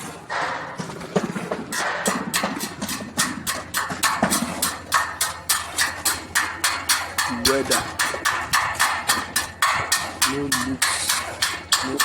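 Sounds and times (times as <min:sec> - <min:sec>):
hammer striking steel: 0:01.8 - 0:12.0.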